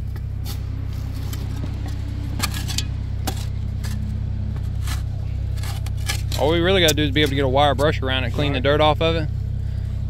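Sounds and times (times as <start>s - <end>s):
engine droning: 0.0s - 10.0s
spade scraping clay and stones: 0.4s - 8.8s.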